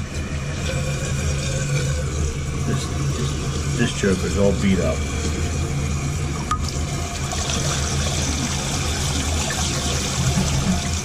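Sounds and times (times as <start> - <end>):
steady low hum: 0.0 - 11.0
water running in toilet tank: 0.0 - 11.0.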